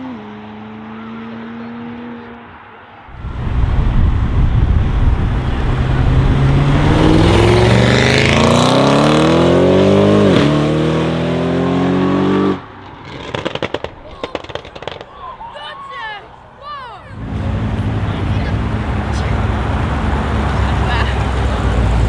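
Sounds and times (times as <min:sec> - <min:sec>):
car engine accelerating hard: 0:00.0 - 0:13.9, 0:17.1 - 0:22.0.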